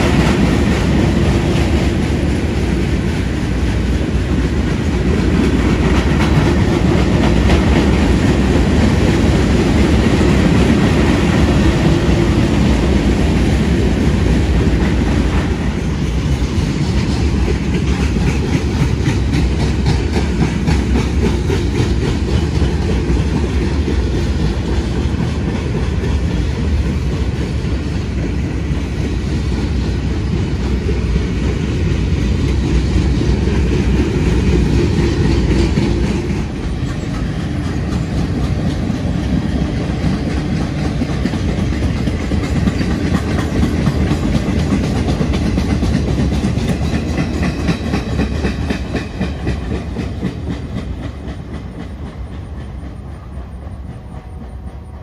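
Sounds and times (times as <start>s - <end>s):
steel wheels clattering on rails: 0.0s - 55.0s.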